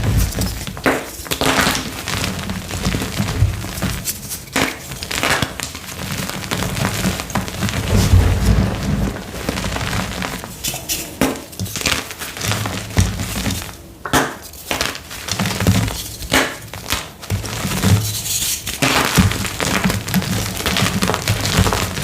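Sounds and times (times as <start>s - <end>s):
chalk crunching by hand: 0.0s - 22.0s
soft thuds of falling pieces: 0.0s - 22.0s.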